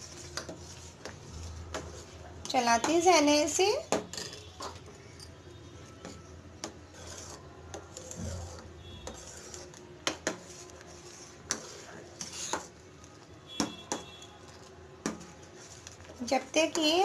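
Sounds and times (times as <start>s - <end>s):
spatula scraping pot: 0.0s - 4.8s, 6.0s - 12.8s, 13.5s - 17.0s.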